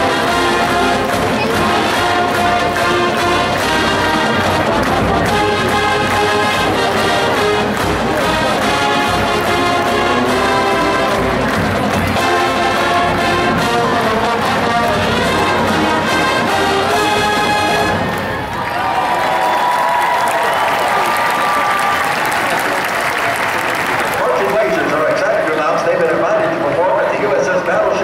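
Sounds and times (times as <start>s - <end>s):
marching band playing: 0.0s - 26.8s.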